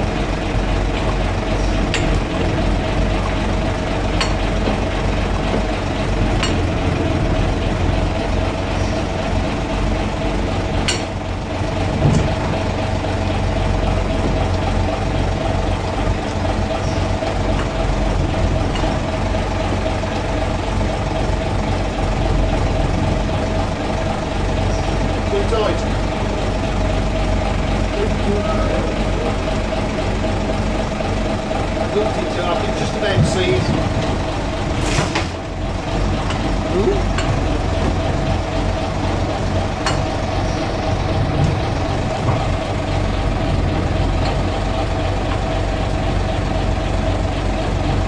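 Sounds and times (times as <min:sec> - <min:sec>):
diesel bus engine running: 0:00.0 - 0:48.0
steady whine: 0:00.0 - 0:48.0.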